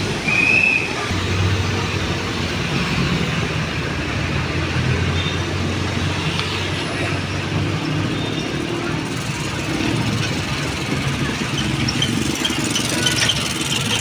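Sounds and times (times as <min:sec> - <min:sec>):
city road traffic: 0:00.0 - 0:14.0
vehicle engine running close: 0:01.0 - 0:14.0.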